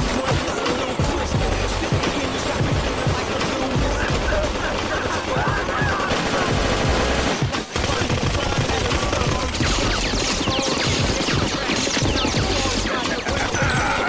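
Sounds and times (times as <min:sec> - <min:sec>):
automatic gunfire: 0:00.0 - 0:14.0.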